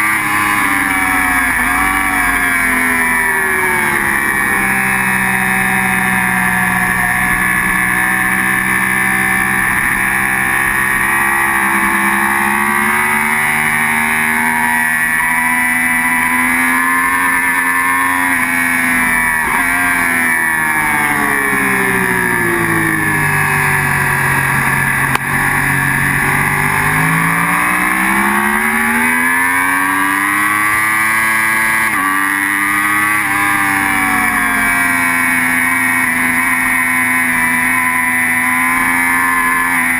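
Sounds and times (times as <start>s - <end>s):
gear change: 0.0s - 39.9s
motorcycle engine at high revs: 0.0s - 39.9s.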